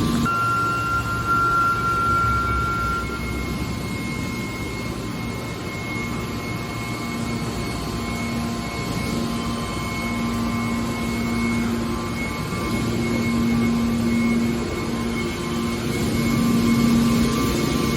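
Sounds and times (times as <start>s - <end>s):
low hum: 0.0s - 15.0s
hydraulic baler machine noise: 0.0s - 17.9s
thin steady whine: 0.0s - 17.9s.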